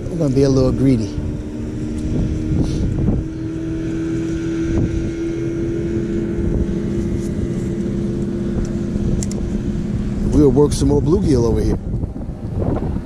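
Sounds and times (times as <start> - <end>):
engine running: 0.0 - 13.0
wind on microphone: 0.0 - 13.0.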